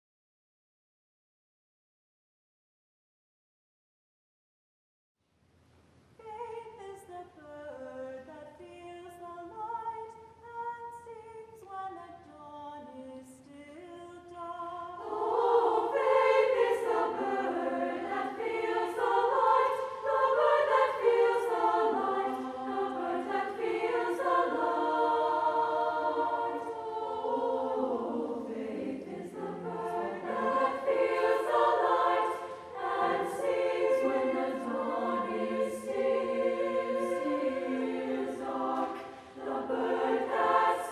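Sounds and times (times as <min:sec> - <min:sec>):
women's choir singing: 0:06.2 - 0:40.9.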